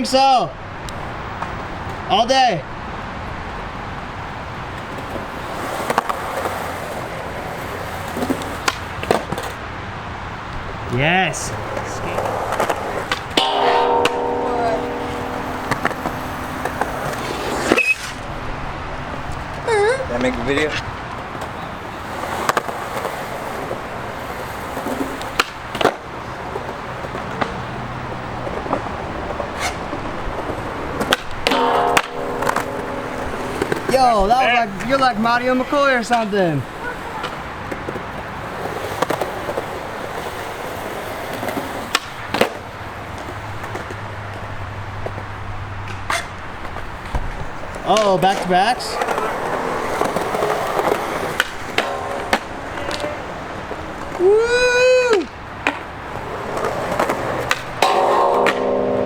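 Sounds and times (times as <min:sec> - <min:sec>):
skateboard wheels rolling on concrete: 0:00.0 - 0:59.0
skateboard clacks: 0:04.2 - 0:18.4, 0:19.1 - 0:59.0.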